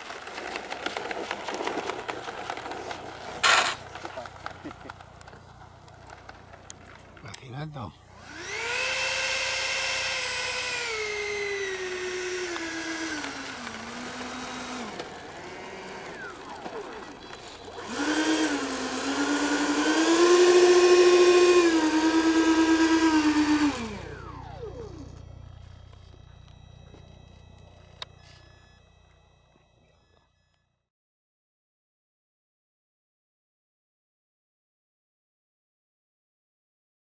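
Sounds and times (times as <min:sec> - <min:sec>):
electric motors whining: 0:00.2 - 0:07.4, 0:08.0 - 0:30.7.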